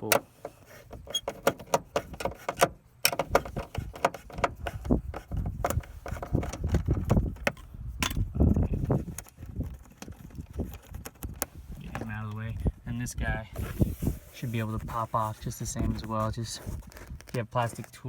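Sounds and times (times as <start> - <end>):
handling knocks and rubbing: 0.0 - 18.0.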